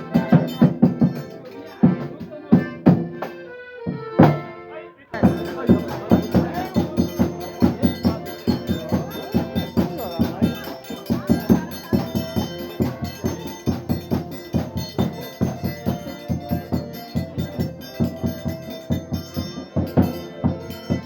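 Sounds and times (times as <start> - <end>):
festive music with drum beat: 0.0 - 21.0.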